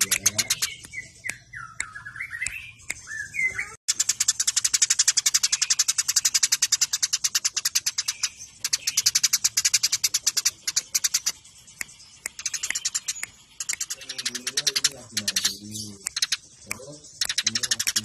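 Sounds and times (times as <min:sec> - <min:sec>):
sparrows chirping rapidly: 0:00.0 - 0:18.0.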